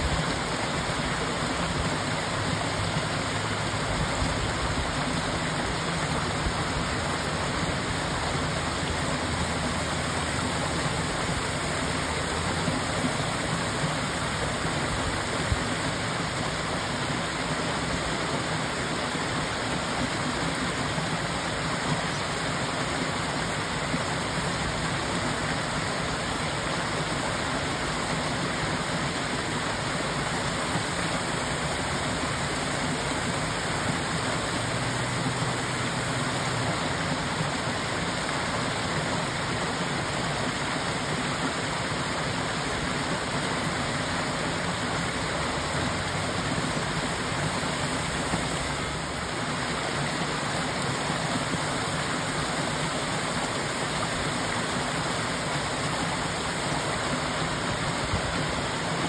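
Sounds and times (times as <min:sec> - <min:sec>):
small waterfall rushing: 0:00.0 - 0:59.0.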